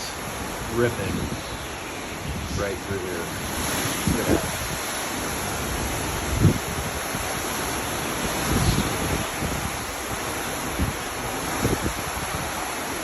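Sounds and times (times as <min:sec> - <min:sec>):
strong wind blowing: 0:00.0 - 0:13.0
wind buffeting microphone: 0:00.0 - 0:13.0.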